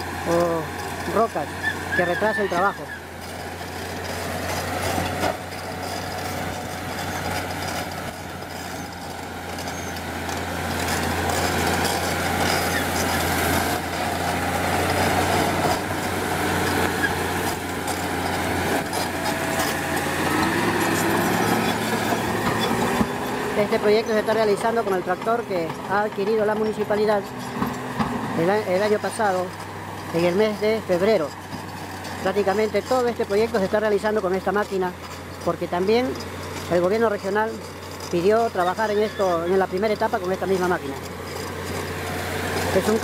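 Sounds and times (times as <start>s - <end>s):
blade pushing earth: 0.0s - 43.0s
bulldozer diesel engine droning: 0.0s - 43.0s.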